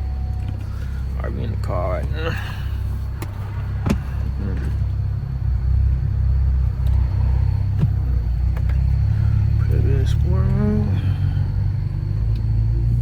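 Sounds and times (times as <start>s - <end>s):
car exhaust rumble: 0.0s - 13.0s.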